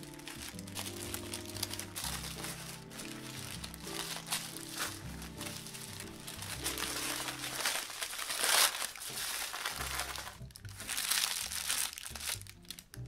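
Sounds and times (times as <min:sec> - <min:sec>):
baking paper crinkling: 0:00.0 - 0:13.0.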